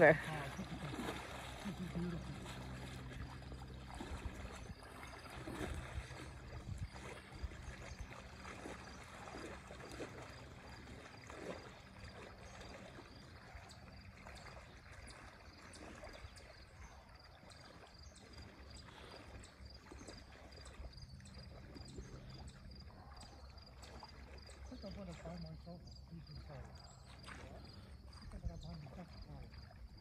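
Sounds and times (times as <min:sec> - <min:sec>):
water sloshing and splashing: 0:00.0 - 0:30.0.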